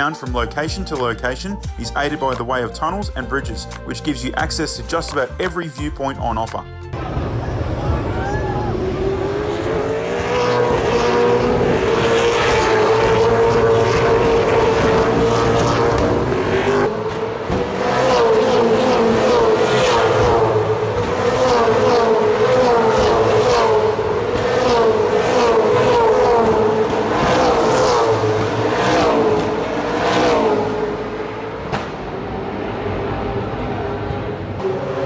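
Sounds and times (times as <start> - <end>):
race car engines revving: 0.0 - 5.6, 6.9 - 35.0.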